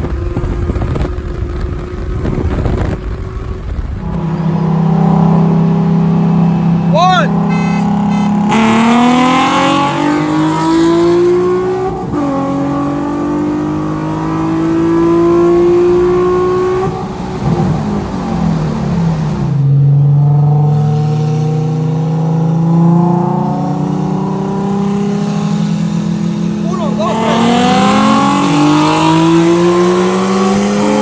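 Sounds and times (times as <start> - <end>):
car engine at full throttle: 0.0 - 31.0.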